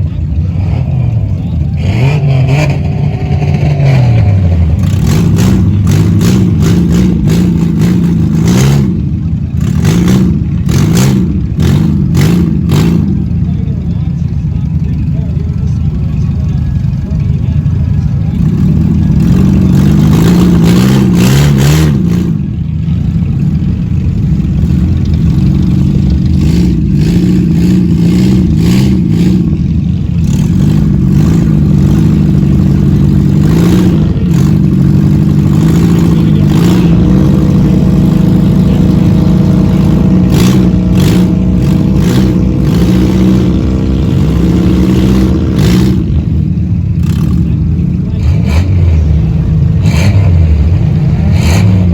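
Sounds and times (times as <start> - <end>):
race car engines revving: 0.0 - 51.9.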